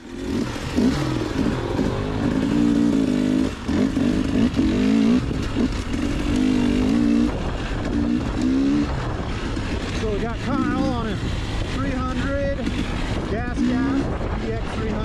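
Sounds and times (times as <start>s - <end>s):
dirt bike engine revving: 0.0s - 15.0s
steady rushing noise: 0.0s - 15.0s.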